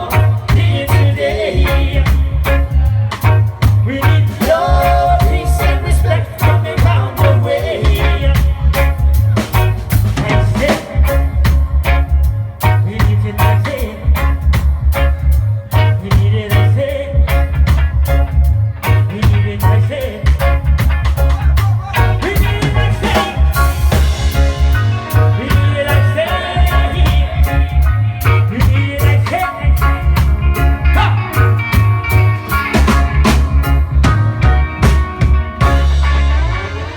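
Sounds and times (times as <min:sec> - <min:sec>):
heavy bass line: 0:00.0 - 0:36.9
live reggae band: 0:00.0 - 0:36.9.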